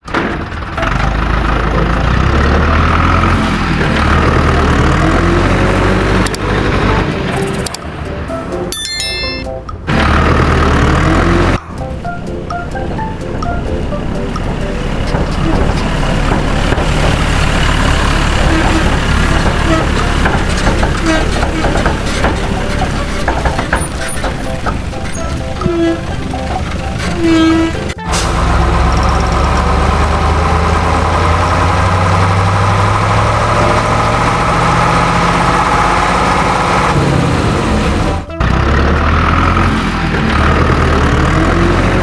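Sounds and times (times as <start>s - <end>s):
heavy engine idling: 0.0s - 8.7s, 9.7s - 42.0s.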